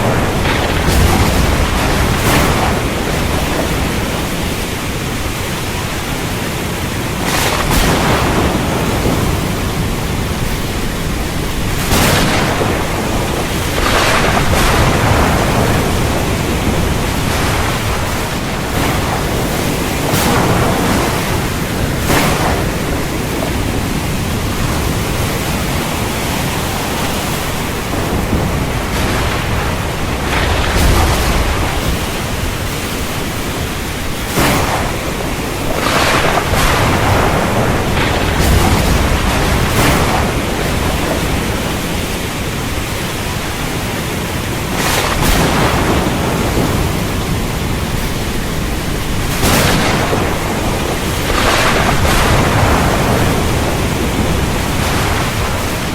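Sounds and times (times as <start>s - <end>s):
heavy rain hissing: 0.0s - 55.9s
thunder cracking and rumbling: 0.0s - 55.9s.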